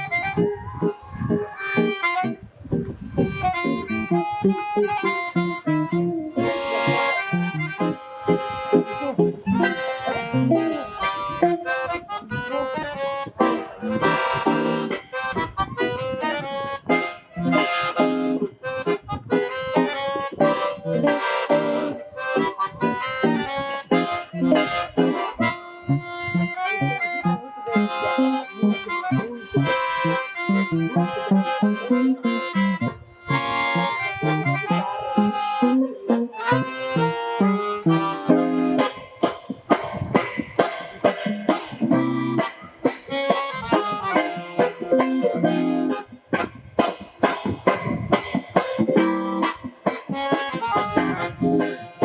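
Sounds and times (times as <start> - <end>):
accordion melody: 0.0 - 52.0
guitar accompaniment: 0.0 - 52.0.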